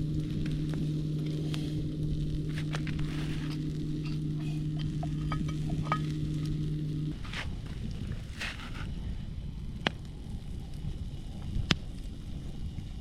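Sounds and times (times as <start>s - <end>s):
campfire pops and crackles: 0.0s - 13.0s
steady low hum: 0.0s - 13.0s.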